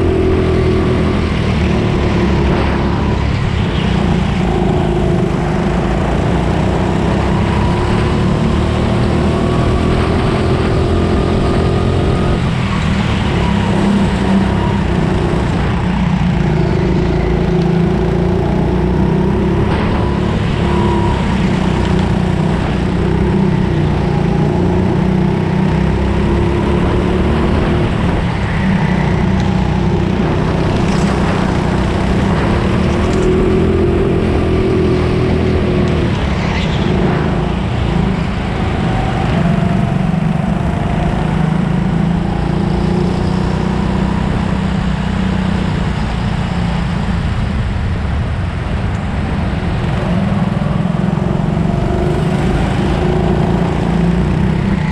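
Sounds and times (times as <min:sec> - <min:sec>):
kart engine revving: 0:00.0 - 0:46.0, 0:50.1 - 0:54.9.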